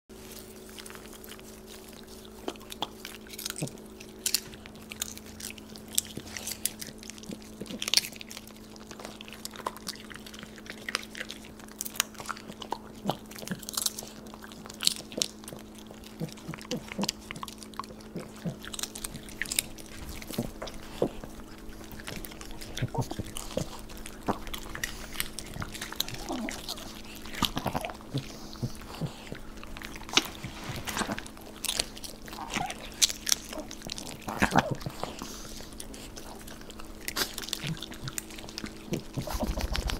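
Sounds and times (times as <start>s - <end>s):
dogs crunching popcorn: 0.1s - 39.9s
steady low hum: 0.1s - 39.9s.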